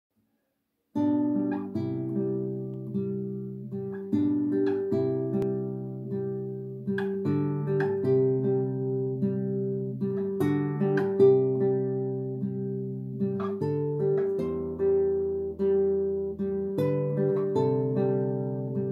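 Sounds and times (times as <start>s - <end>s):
classical guitar playing: 0.9s - 18.9s.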